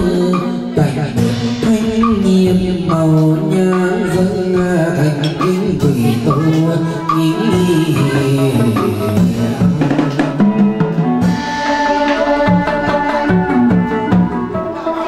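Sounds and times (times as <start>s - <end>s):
barrel drums beating: 0.0s - 15.0s
instrumental melody: 0.0s - 15.0s.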